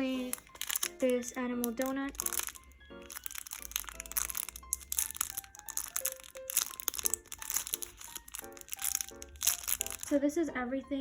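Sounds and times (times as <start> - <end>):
plastic packaging crinkling: 0.0 - 10.2
soft background music: 0.0 - 11.0.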